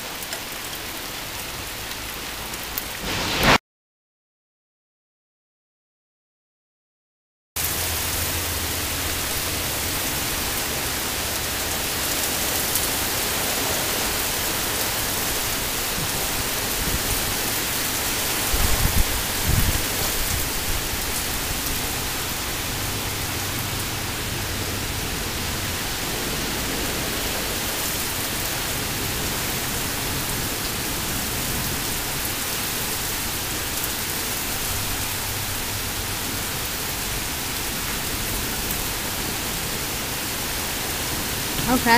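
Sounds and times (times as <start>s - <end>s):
heavy rain pouring: 0.0s - 3.6s, 7.6s - 41.9s.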